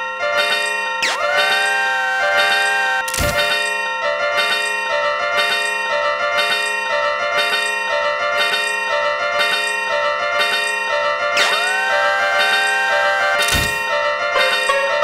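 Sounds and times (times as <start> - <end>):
level crossing bells clanging: 0.0 - 15.0.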